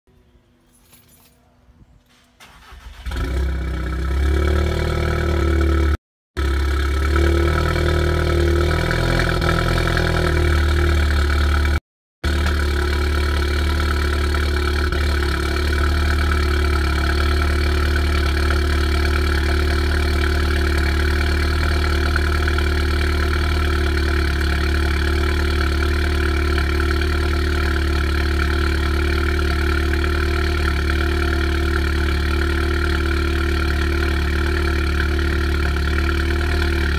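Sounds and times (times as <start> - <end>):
car engine starting and idling: 2.4 - 36.9.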